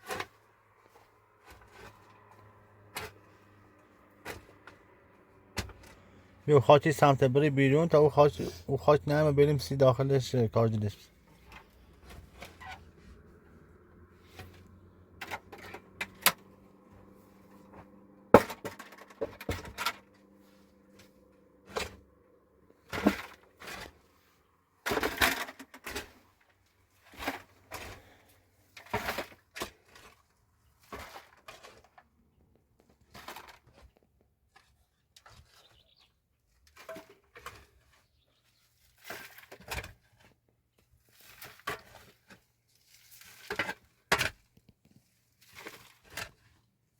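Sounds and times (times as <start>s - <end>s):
objects knocking and scraping: 0.0s - 6.2s, 10.7s - 22.1s, 22.8s - 24.2s, 24.8s - 26.4s, 27.0s - 35.9s, 36.6s - 38.1s, 38.9s - 46.7s.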